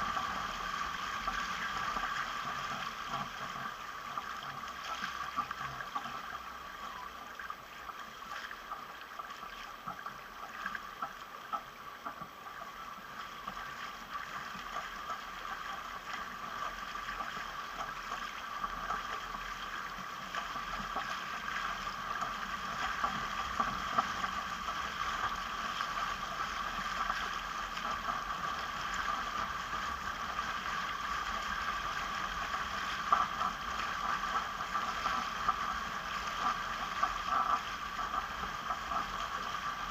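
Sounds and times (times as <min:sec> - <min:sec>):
water rushing along a hull: 0:00.0 - 0:39.9.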